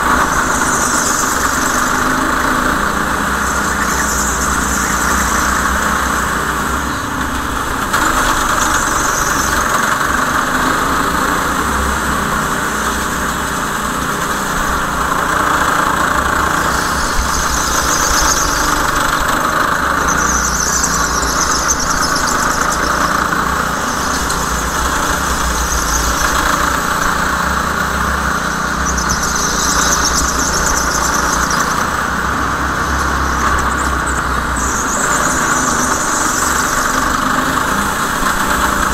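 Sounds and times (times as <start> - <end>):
go-kart engine running: 0.0 - 38.9
tyres squealing: 0.0 - 38.9.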